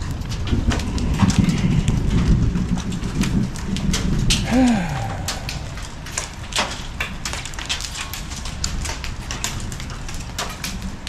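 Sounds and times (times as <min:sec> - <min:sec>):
hailstones hitting roof: 0:00.0 - 0:11.0
low storm rumble: 0:00.0 - 0:11.0.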